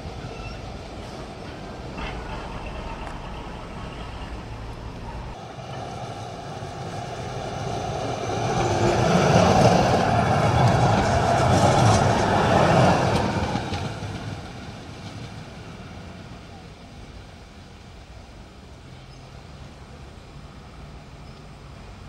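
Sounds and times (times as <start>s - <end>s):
tram passing on rails: 0.0s - 22.0s
wheels clicking on track: 0.0s - 22.0s.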